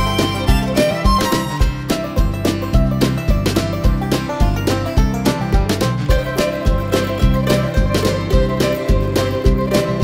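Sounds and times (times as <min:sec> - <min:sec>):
music with steady beat: 0:00.0 - 0:10.0
string melody: 0:00.0 - 0:10.0.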